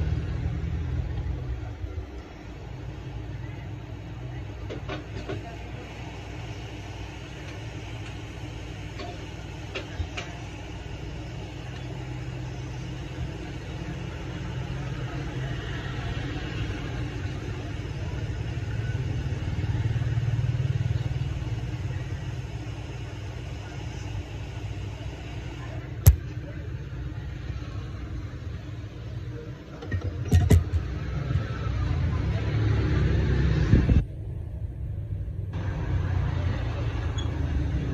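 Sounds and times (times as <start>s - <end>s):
engine rumble: 0.0s - 37.9s.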